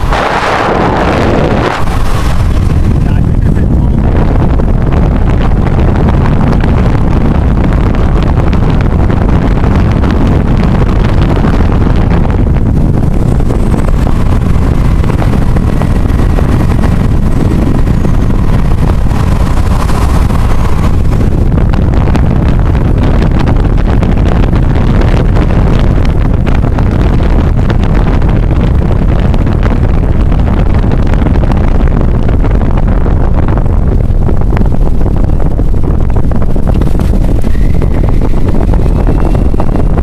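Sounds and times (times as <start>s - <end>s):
tyre and road noise: 0.0s - 40.0s
wind buffeting microphone: 0.0s - 40.0s.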